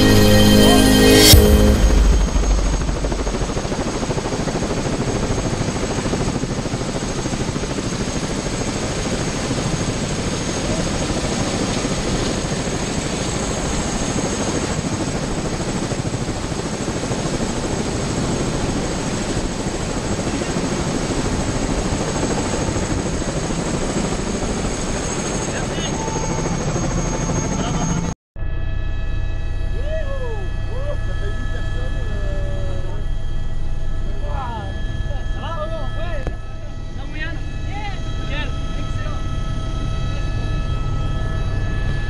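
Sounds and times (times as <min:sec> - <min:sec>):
helicopter rotor noise: 0:00.0 - 0:42.0
helicopter turbine whine: 0:00.0 - 0:42.0.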